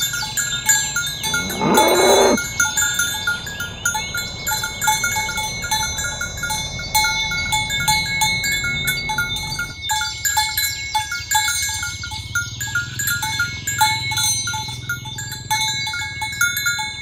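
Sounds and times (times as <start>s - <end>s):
cow bells clanking: 0.0s - 17.0s.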